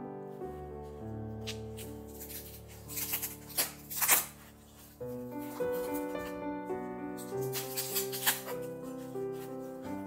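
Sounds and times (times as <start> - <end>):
soft keyboard music: 0.0 - 10.0
foam wrapping rustling: 0.2 - 10.0.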